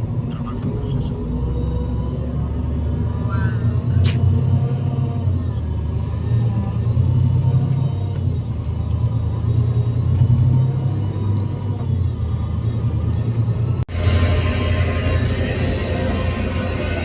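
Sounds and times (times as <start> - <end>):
diesel coach engine rumble: 0.0 - 17.0.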